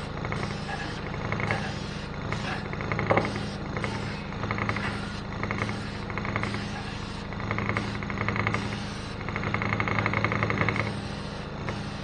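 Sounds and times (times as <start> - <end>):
rapid rattling buzz: 0.0 - 12.0
small motor humming: 0.0 - 12.0.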